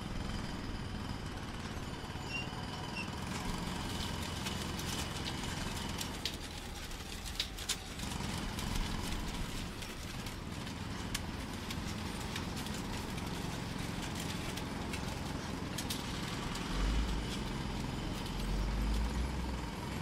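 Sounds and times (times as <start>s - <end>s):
heavy machinery rumbling: 0.0s - 20.0s.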